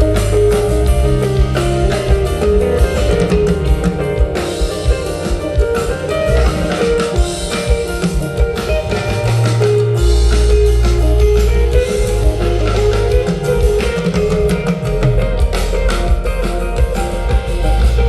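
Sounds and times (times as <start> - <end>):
drum kit: 0.0 - 18.0
electric guitar lines: 0.0 - 18.0
held low bass notes: 0.0 - 18.0.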